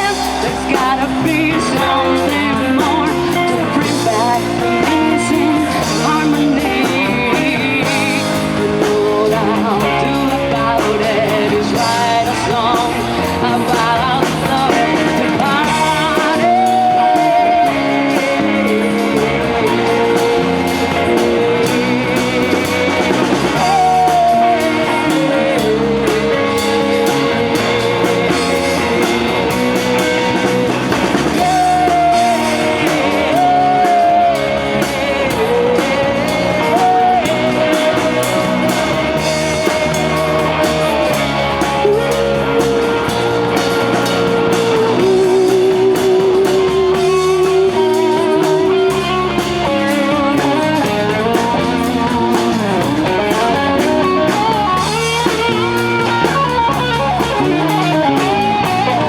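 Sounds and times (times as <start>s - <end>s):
drums: 0.0s - 59.0s
electric guitar: 0.0s - 59.0s.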